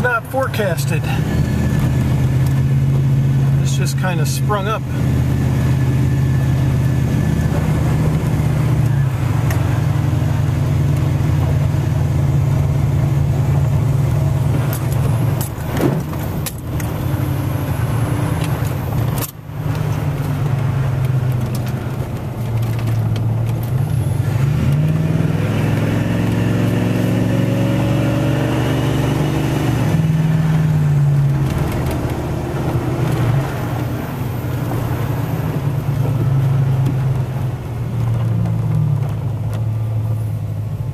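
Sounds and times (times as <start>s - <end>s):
road noise inside cab: 0.0s - 40.9s
truck engine drone: 0.0s - 40.9s.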